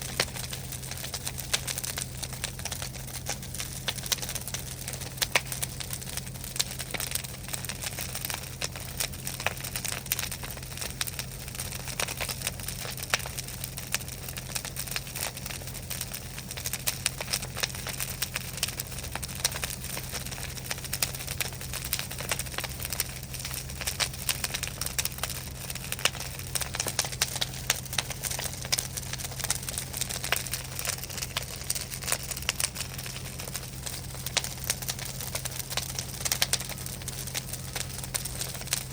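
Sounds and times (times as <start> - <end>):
bonfire crackling and popping: 0.0 - 38.9
low steady hum: 0.0 - 38.9.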